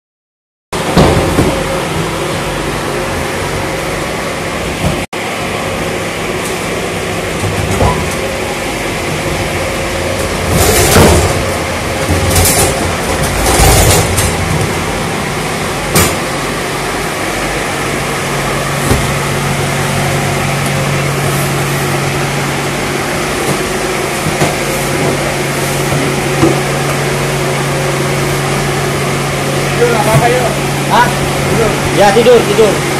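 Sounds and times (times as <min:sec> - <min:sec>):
machine hum: 0:00.8 - 0:32.9.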